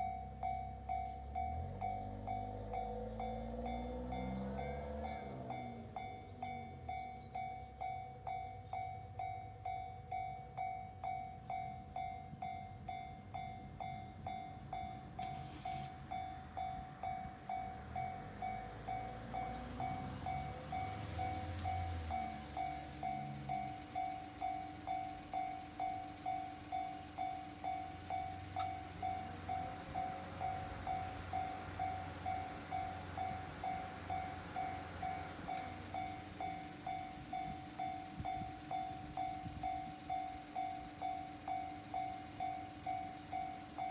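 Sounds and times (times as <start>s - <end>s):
electric train rumble: 0.0s - 43.9s
level-crossing warning bell: 0.0s - 43.9s.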